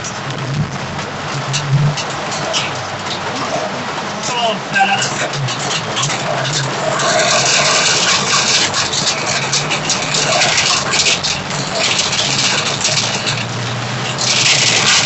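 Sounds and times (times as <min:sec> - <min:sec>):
engine humming: 0:00.0 - 0:15.0
heavy rain drumming on car: 0:00.0 - 0:15.0.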